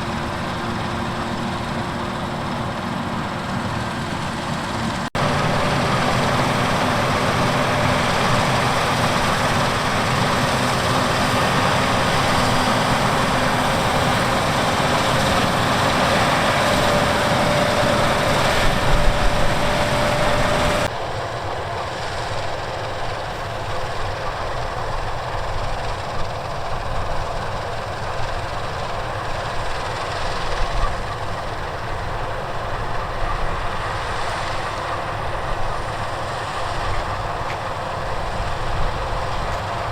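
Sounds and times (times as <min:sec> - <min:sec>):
combine harvester running: 0:00.0 - 0:39.9
quieter machine noise: 0:00.0 - 0:39.9.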